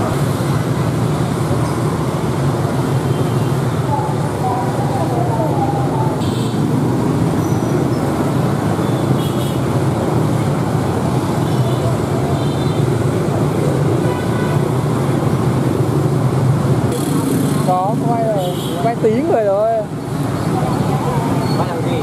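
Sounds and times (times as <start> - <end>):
motorbike engines passing: 0.0 - 22.0.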